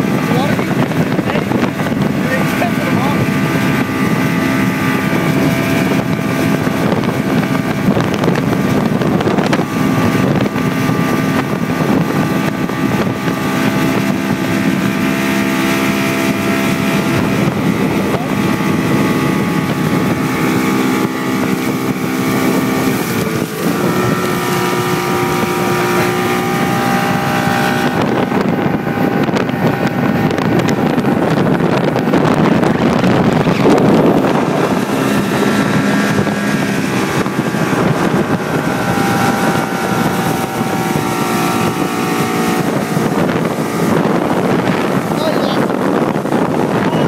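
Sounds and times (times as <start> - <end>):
outboard motor running: 0.0 - 47.0
rush of boat wake: 0.0 - 47.0
wind on microphone: 0.0 - 47.0.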